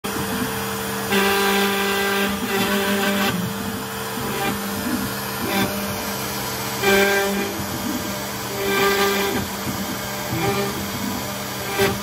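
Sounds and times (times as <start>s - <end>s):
bit cutting wood whine: 0.0s - 12.0s
router spindle motor whine: 0.1s - 12.0s.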